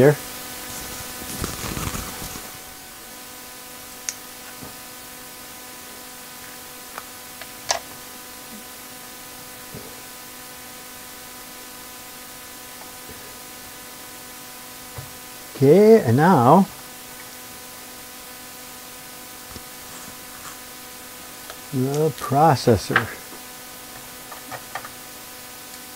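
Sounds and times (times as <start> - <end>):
electrical hum and hiss: 0.0 - 25.9.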